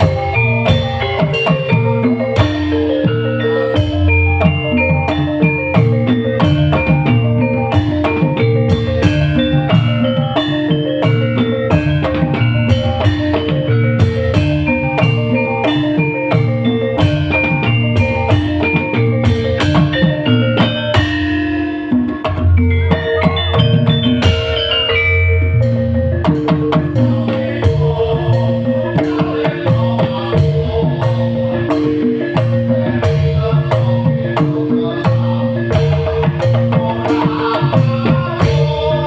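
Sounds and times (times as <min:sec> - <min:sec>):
drum kit beat: 0:00.0 - 0:39.0
plucked and mallet melodic notes: 0:00.0 - 0:39.0.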